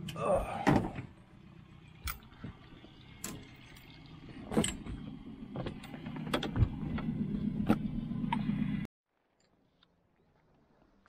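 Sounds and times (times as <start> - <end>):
low motor hum: 0.0 - 8.9.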